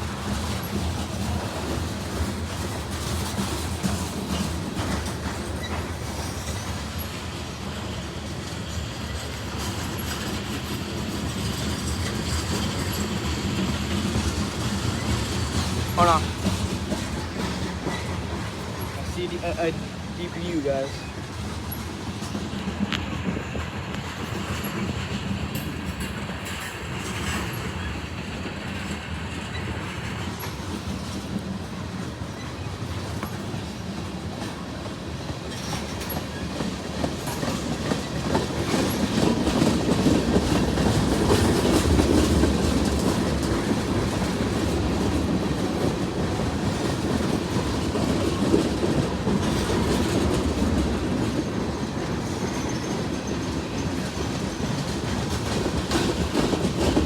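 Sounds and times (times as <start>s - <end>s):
diesel locomotive rumble: 0.0s - 57.0s
train wheels on rails: 0.0s - 57.0s.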